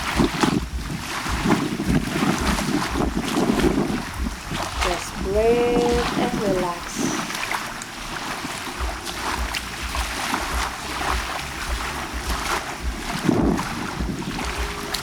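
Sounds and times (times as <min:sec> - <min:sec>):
small waves lapping at shore: 0:00.0 - 0:15.0
wind rumbling on microphone: 0:00.0 - 0:15.0.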